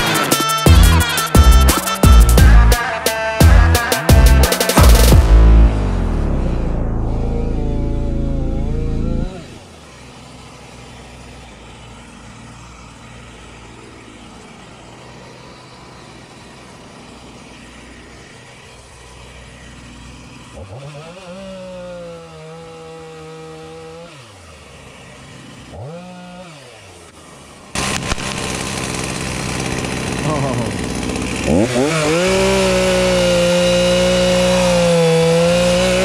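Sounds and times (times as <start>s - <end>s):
two-stroke chainsaw revving: 0.0s - 36.0s.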